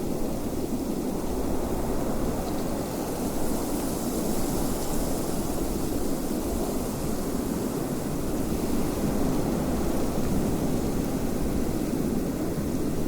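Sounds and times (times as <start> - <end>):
wind blowing steadily: 0.0 - 13.0.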